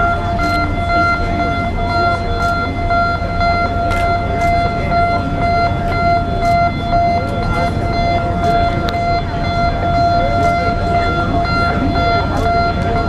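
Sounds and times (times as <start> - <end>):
high electronic alarm tone: 0.0 - 13.0
low steady rumble: 0.0 - 13.0.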